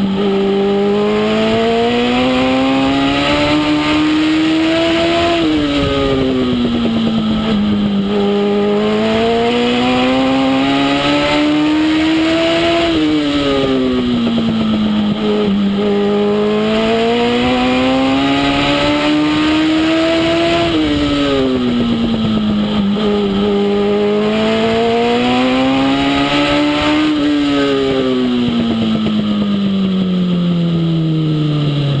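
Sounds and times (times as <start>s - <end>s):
racing engine revving: 0.0s - 29.7s.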